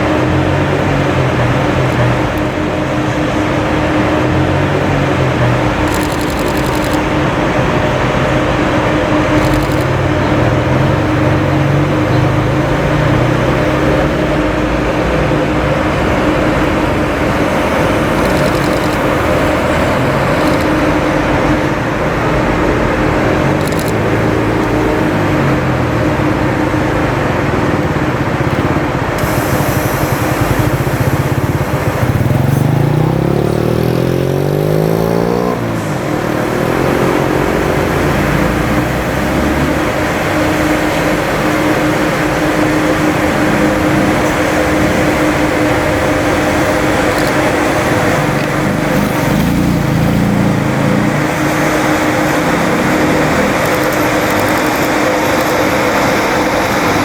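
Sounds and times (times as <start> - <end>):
electric locomotive rumbling: 0.0 - 57.0.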